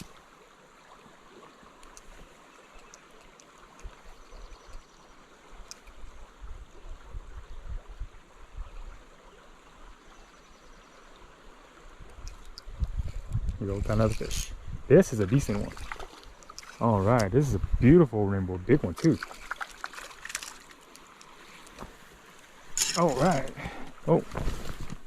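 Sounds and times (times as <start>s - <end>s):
creek water running: 0.0s - 25.0s.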